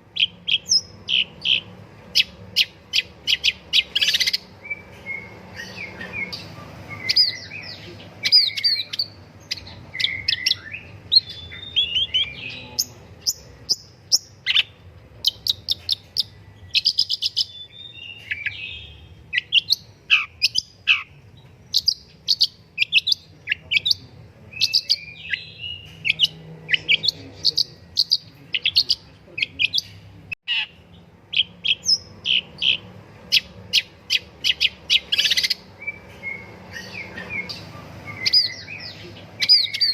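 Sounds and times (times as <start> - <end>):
shrike singing chirps and whistles: 0.1 - 29.9, 30.5 - 39.9.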